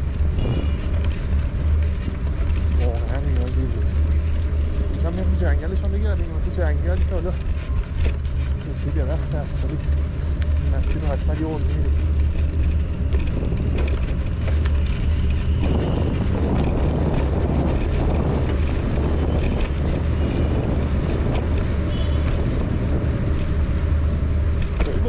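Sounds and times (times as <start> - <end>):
bicycle tyre noise: 0.0 - 25.0
bike clicks and rattles: 0.0 - 25.0
wind rumble on microphone: 0.0 - 25.0.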